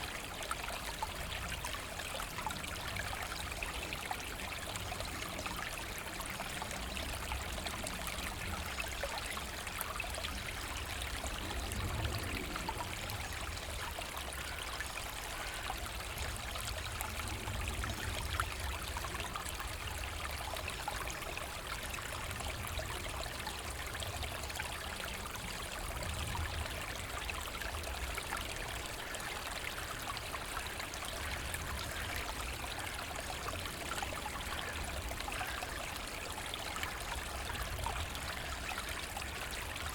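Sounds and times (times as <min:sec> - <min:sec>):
brook flowing over stones: 0:00.0 - 0:39.9.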